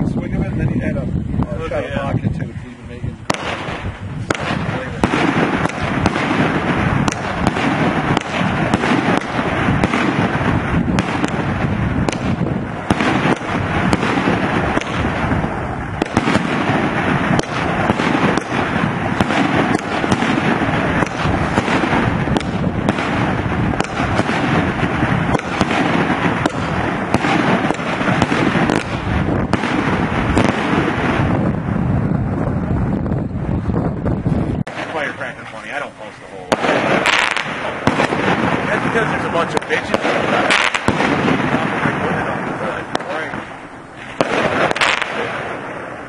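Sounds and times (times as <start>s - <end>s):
fireworks barrage: 0.0s - 46.0s.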